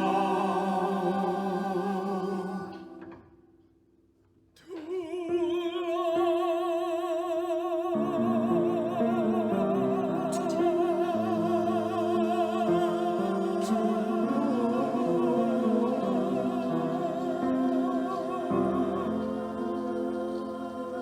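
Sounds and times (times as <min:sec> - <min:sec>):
solo singer with vibrato: 0:00.0 - 0:03.2, 0:04.6 - 0:21.0.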